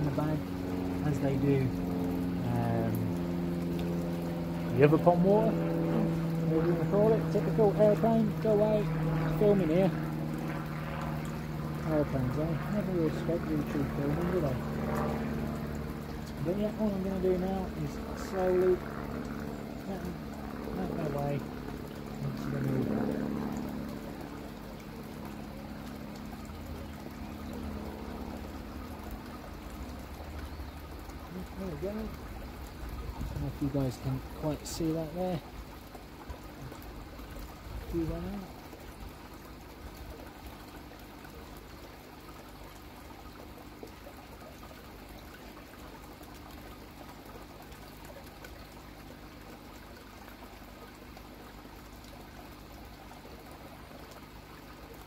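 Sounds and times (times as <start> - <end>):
low steady hum: 0.0 - 55.0
water trickling and pouring: 0.0 - 55.0.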